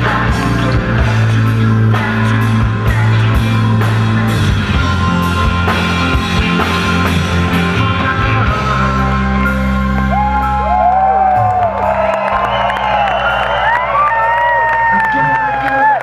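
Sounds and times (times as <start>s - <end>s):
rock band with orchestra: 0.0s - 16.0s.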